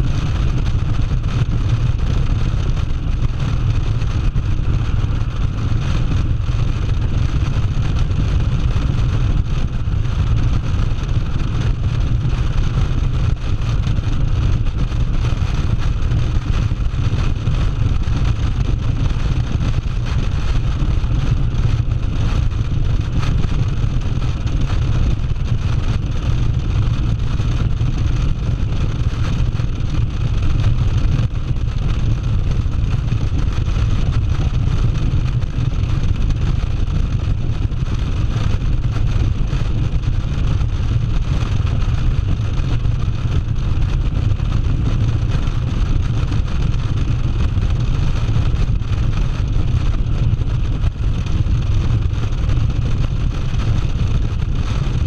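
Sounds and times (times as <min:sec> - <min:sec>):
motorcycle engine drone: 0:00.0 - 0:55.0
wind rushing over microphone: 0:00.0 - 0:55.0.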